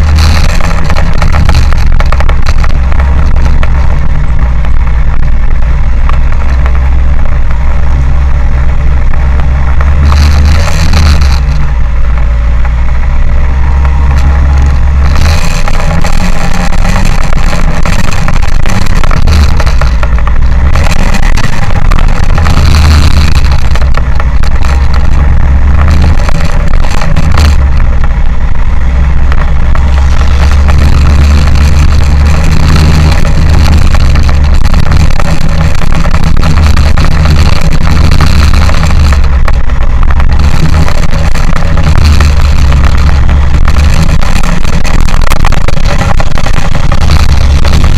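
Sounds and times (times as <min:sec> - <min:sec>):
car engine road and wind noise: 0:00.0 - 0:47.9.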